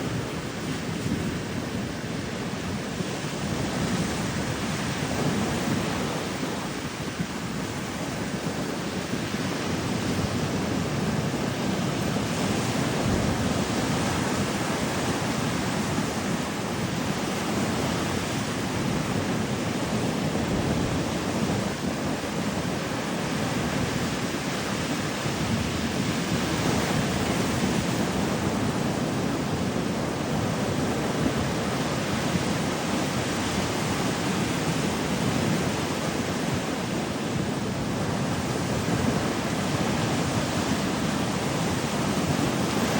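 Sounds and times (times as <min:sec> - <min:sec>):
ocean surf on a beach: 0:00.0 - 0:42.9.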